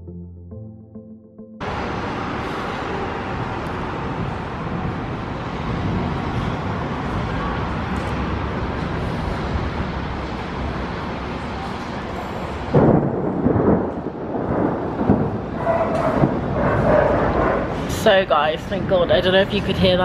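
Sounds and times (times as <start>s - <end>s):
thunderstorm rushing noise: 1.6s - 18.3s.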